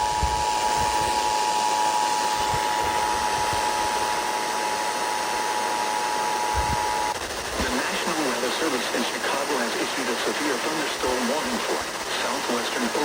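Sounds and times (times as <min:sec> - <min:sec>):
loud hiss: 0:00.0 - 0:13.0.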